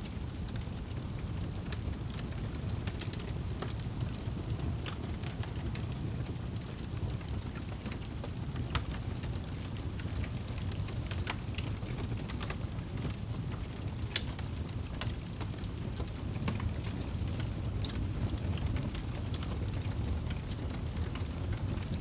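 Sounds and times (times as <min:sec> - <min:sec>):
rain: 0:00.0 - 0:22.0
fire crackling: 0:00.1 - 0:22.0.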